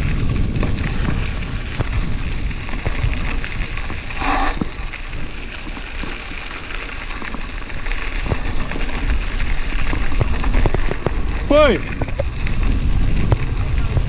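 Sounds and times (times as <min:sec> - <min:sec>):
bicycle clicks and rattles: 0:00.0 - 0:14.0
wind rumbling on microphone: 0:00.0 - 0:14.0.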